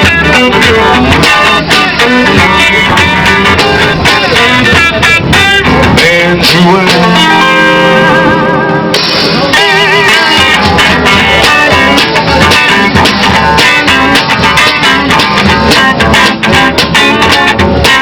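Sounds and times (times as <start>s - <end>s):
drums and bass: 0.0s - 18.0s
lead guitar vibrato notes: 0.0s - 18.0s.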